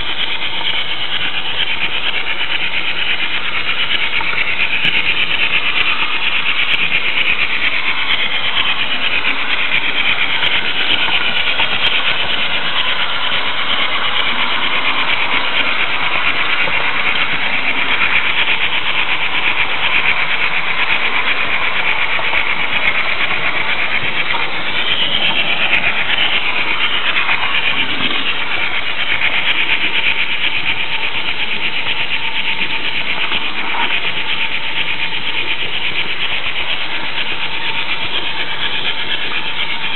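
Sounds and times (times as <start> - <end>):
model train wheels and motor whirring: 0.0 - 39.9.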